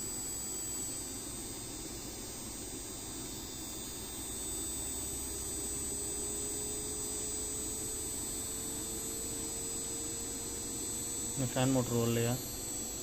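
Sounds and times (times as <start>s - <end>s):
air conditioner compressor humming: 0.0s - 13.0s.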